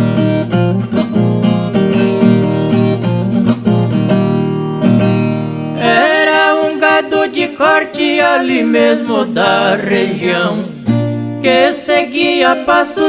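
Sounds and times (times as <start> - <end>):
acoustic strings strummed and picked: 0.0 - 13.0.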